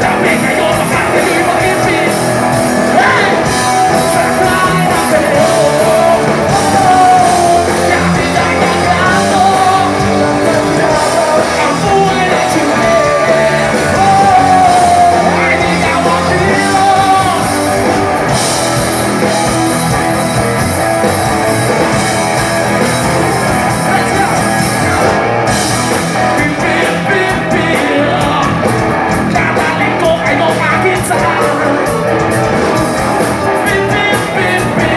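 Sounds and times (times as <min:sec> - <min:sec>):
lead vocal singing: 0:00.0 - 0:18.4, 0:23.5 - 0:25.2, 0:25.9 - 0:34.9
bass guitar: 0:00.0 - 0:34.9
drums: 0:00.0 - 0:34.9
electric guitars: 0:00.0 - 0:34.9.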